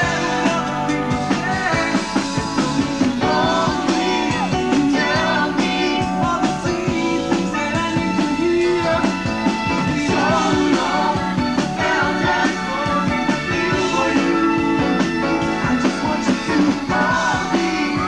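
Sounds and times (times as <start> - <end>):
man singing: 0.0 - 18.0
pop-rock band playing: 0.0 - 18.0.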